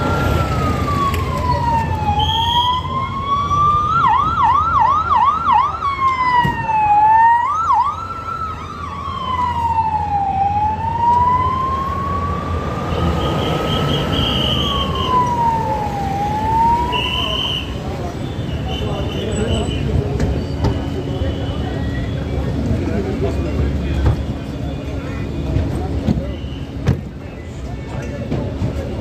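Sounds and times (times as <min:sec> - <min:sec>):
low traffic rumble: 0:00.0 - 0:29.0.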